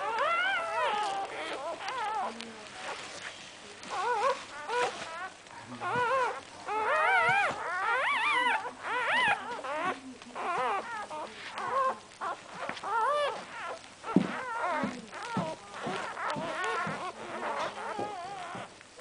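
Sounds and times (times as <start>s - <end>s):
puppies squealing and whimpering: 0.0s - 19.0s.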